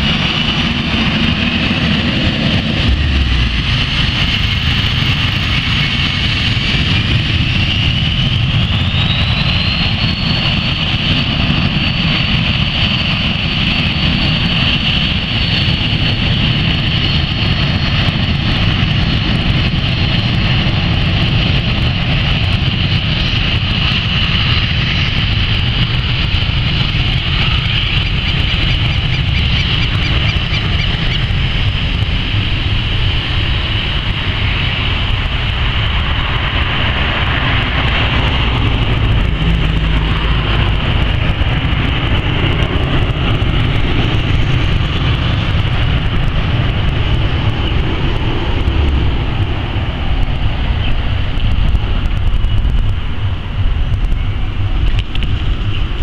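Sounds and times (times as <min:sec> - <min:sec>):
jet engines at takeoff: 0:00.0 - 0:56.0.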